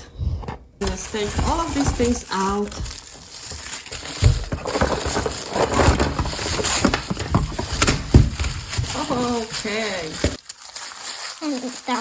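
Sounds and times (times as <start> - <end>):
plastic packaging crinkling: 0.8 - 12.0.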